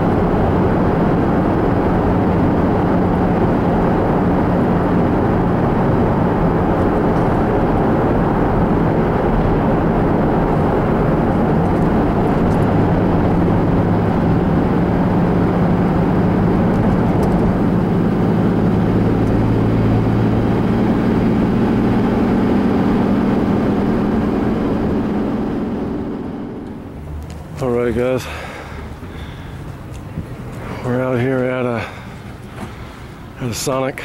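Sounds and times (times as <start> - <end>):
mechanical noise with low hum: 0.0 - 34.0.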